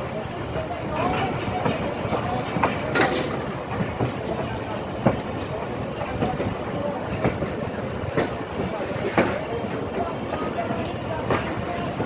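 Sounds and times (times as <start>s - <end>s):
train running rumble: 0.0s - 12.0s
train wheels clanking over joints: 1.0s - 12.0s.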